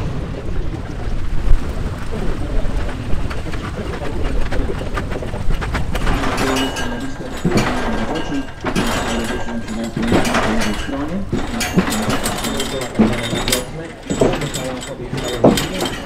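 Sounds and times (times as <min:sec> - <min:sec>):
rail carriage rumbling on rails: 0:00.0 - 0:16.0
wheel clicks and creaks: 0:00.0 - 0:16.0.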